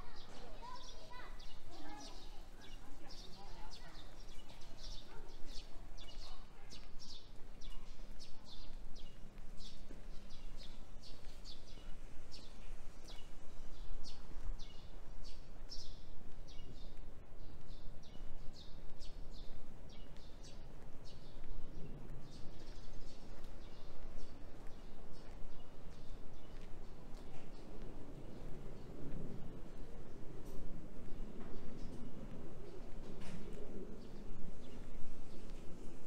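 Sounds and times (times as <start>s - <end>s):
small birds chirping: 0.0s - 28.9s
low city background hum: 0.0s - 36.0s.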